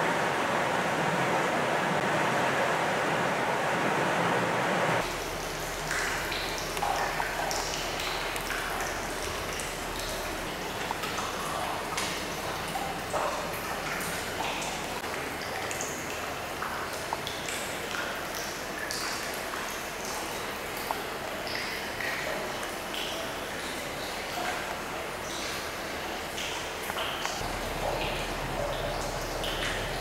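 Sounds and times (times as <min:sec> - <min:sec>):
echoing water drips: 0:05.0 - 0:30.0
water splashing into bath: 0:05.0 - 0:30.0.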